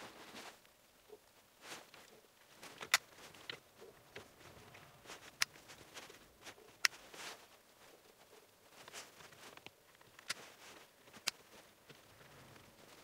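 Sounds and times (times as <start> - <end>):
rustling of wires: 0.0 - 13.0.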